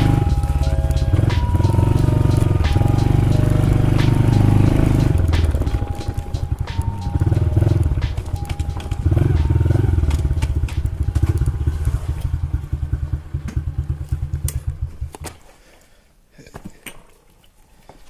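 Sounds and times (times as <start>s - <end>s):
engine running with low pulsing: 0.0s - 15.2s.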